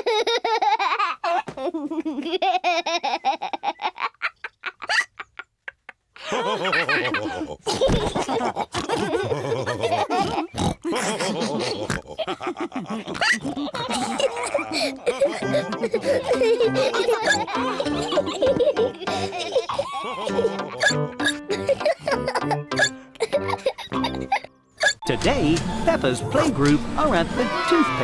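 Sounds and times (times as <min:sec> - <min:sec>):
cartoon characters laughing: 0:00.0 - 0:25.0.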